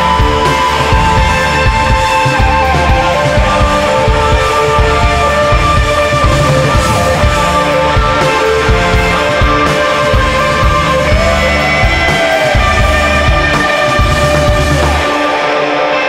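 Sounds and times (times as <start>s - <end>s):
rock music with sustained notes: 0.0s - 16.0s
steady low beat: 1.0s - 15.0s.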